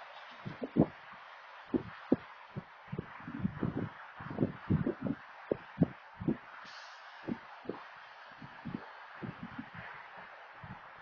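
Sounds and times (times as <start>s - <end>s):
wind buffeting microphone: 0.0s - 6.6s, 7.2s - 11.0s.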